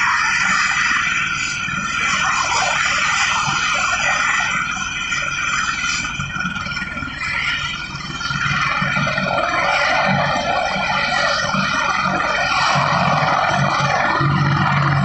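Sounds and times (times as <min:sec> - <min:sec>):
helicopter running: 0:00.0 - 0:15.0.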